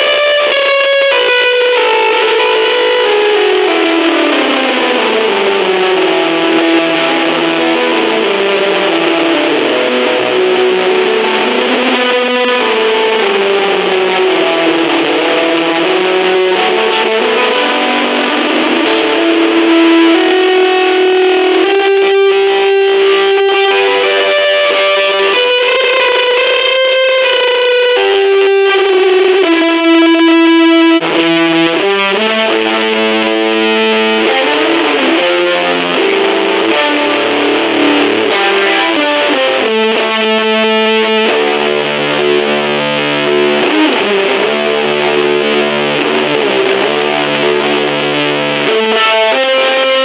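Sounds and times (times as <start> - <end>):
distorted electric guitar with echo: 0.0 - 50.0.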